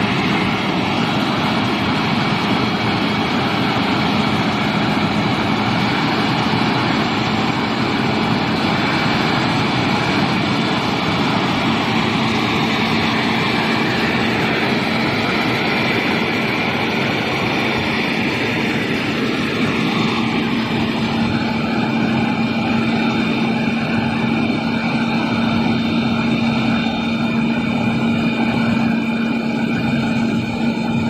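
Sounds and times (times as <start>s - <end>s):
engine and exhaust fan droning: 0.0s - 31.0s.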